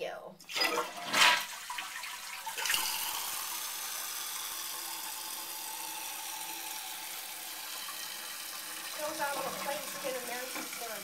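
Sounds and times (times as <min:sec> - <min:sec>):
toilet fill valve hissing: 0:00.4 - 0:11.0.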